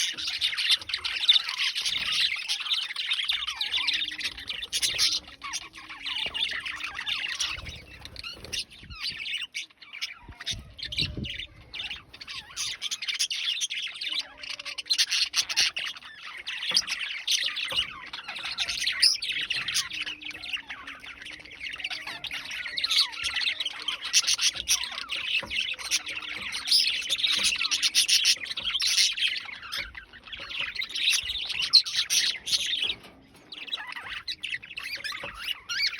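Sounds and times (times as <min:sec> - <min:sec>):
cockatiels chirping and squawking: 0:00.0 - 0:35.9.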